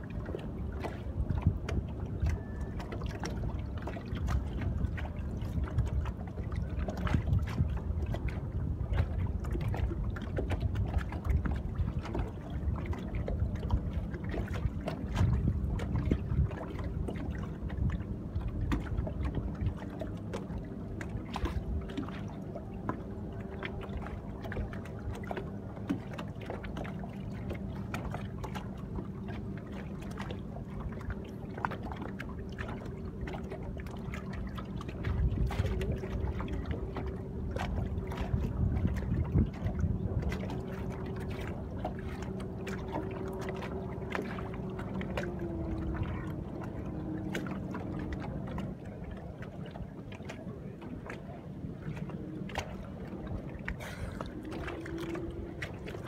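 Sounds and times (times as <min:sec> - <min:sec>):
waves lapping against boat hull: 0:00.0 - 0:56.0
wind buffeting microphone: 0:00.0 - 0:56.0.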